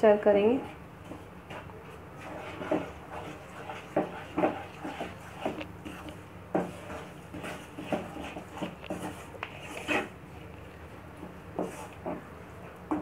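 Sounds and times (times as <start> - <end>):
wooden spatula scraping a pan: 0.4 - 13.0.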